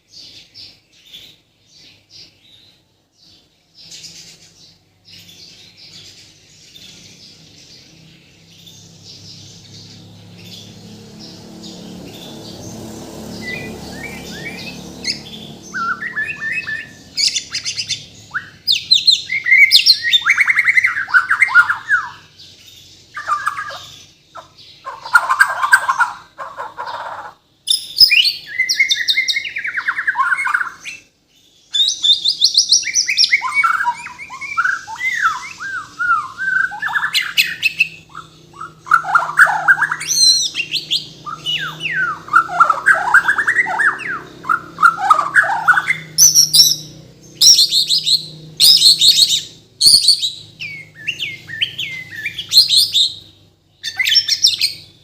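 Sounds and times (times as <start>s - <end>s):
songbird singing whistles and trills: 0.1s - 26.3s, 27.6s - 55.0s.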